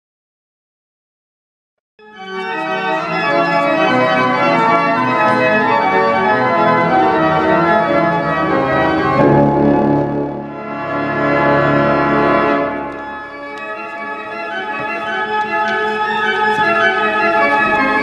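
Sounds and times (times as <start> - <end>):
pipe organ playing: 2.0 - 18.0.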